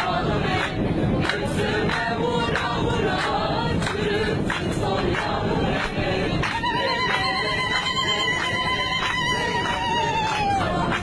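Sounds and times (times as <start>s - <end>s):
crowd celebrating: 0.0s - 11.0s.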